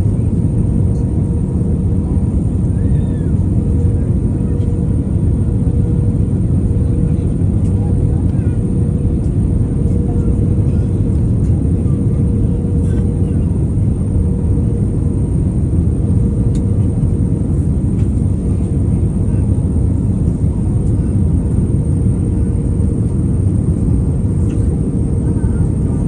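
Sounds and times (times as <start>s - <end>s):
airliner engine drone: 0.0s - 26.0s.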